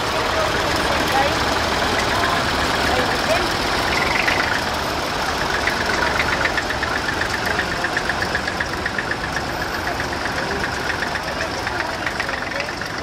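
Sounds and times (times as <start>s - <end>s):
rapid ticking knock: 0.0s - 13.0s
tractor engines running slowly: 0.0s - 13.0s.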